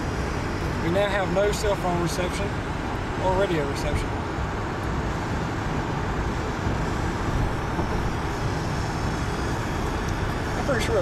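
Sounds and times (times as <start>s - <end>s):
car road noise in tunnel: 0.0s - 11.0s
passing traffic: 0.0s - 11.0s.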